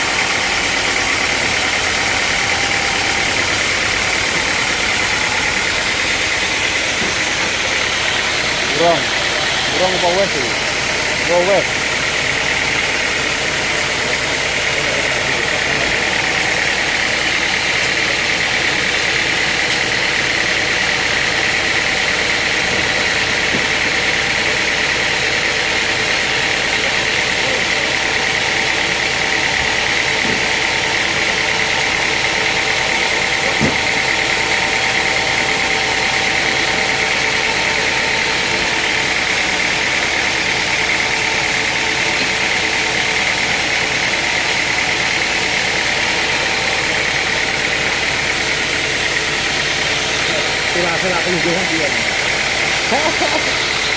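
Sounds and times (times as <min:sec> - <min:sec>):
sawmill machinery drone: 0:00.0 - 0:53.9.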